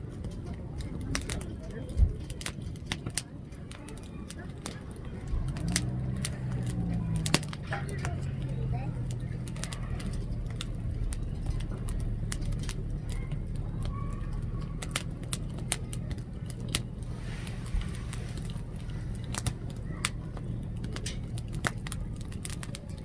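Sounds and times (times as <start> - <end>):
firewood crackling and popping: 0.0 - 23.0
steady low hum: 0.0 - 23.0.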